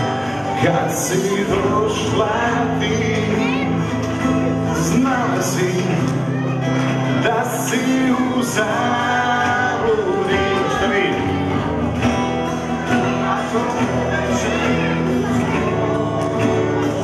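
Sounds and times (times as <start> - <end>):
man singing: 0.0 - 12.0, 12.8 - 17.0
acoustic guitars strummed: 0.0 - 17.0.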